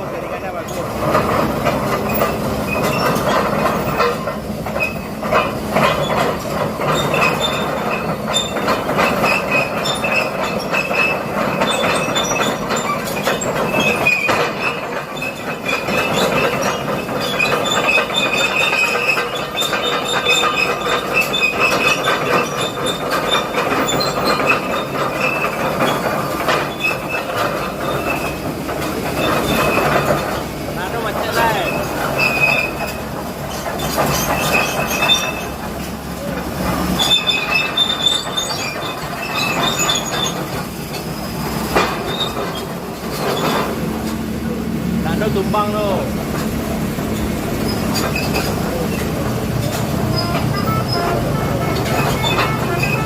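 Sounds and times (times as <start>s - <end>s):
excavator engine running: 0.0s - 53.0s
steel tracks squealing and clanking: 0.0s - 53.0s.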